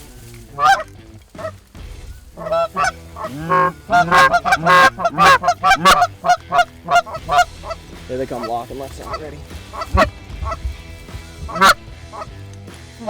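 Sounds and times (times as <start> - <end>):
geese honking and clucking: 0.0 - 1.6, 2.4 - 12.4.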